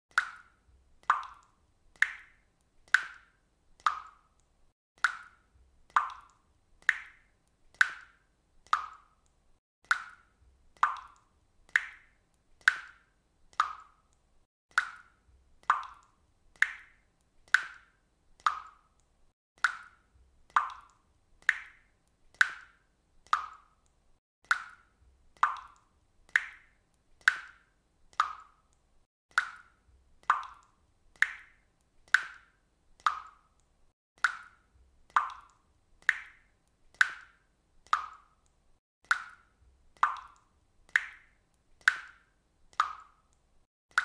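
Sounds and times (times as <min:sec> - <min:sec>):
water dripping from a faucet: 0:00.1 - 0:44.0.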